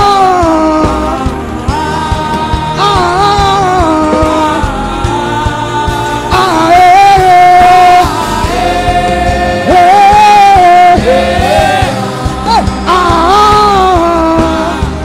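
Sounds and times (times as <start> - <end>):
instrumental backing with percussion: 0.0 - 15.0.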